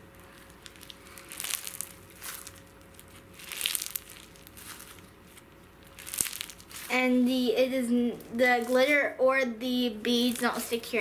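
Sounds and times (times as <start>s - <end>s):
slime beads crunching: 0.0s - 9.0s, 10.1s - 10.9s.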